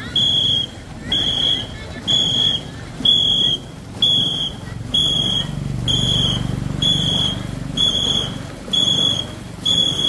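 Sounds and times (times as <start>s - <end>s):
whistle short blasts: 0.1s - 10.0s.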